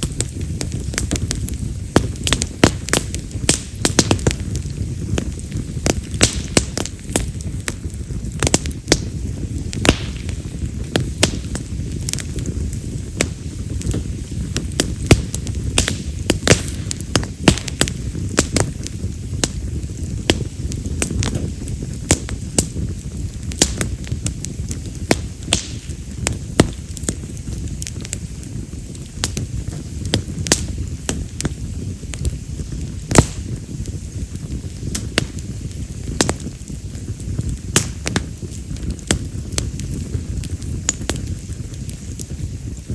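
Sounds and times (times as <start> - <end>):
low rush of flames: 0.0 - 42.9
wood fire crackling and popping: 0.0 - 42.9.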